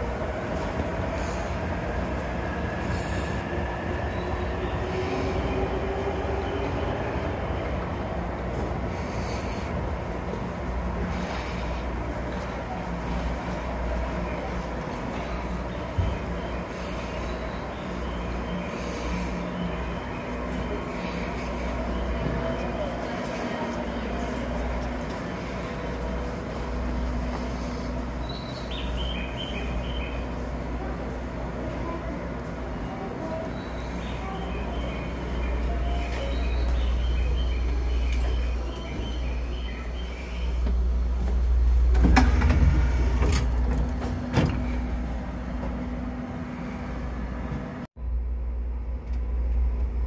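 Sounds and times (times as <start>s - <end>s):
low rumble of station platform: 0.0s - 50.0s.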